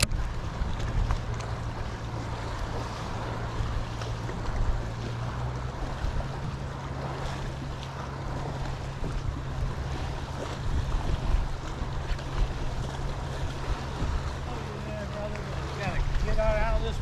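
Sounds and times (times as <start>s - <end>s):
waves slapping boat hull: 0.0s - 17.0s
wind buffeting microphone: 0.0s - 17.0s.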